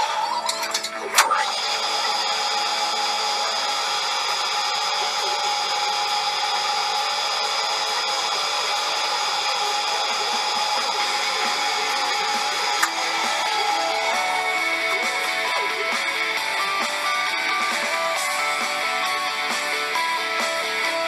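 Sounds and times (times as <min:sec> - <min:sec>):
lathe whining: 0:00.0 - 0:21.0.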